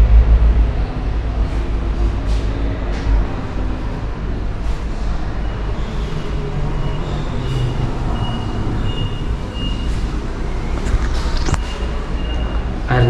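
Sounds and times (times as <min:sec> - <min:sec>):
bus engines and traffic rumble: 0:00.0 - 0:13.0.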